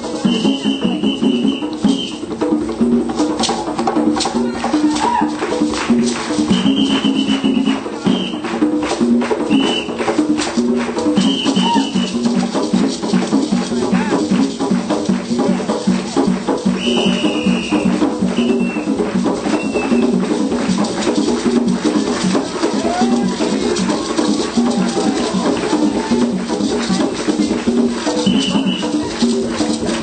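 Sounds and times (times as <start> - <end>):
hand drums and shakers: 0.0 - 30.0.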